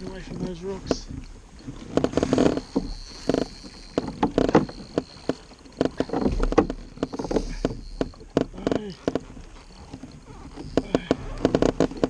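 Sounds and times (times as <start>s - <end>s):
water slapping against kayak hull: 0.0s - 12.0s.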